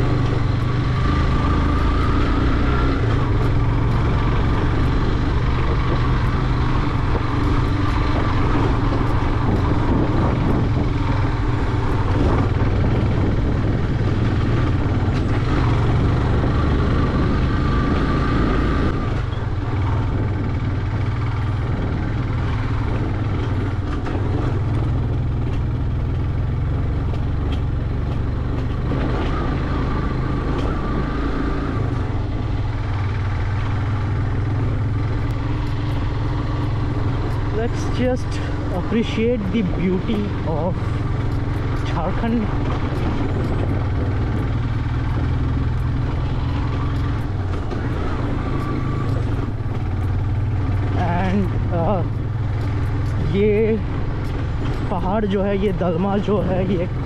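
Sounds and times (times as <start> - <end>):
motorcycle engine: 0.0 - 57.0
road noise: 0.0 - 57.0.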